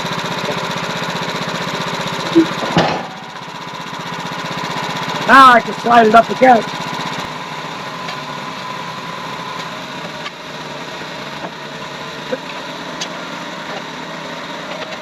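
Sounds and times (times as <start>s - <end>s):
sawmill engine idling: 0.0s - 15.0s.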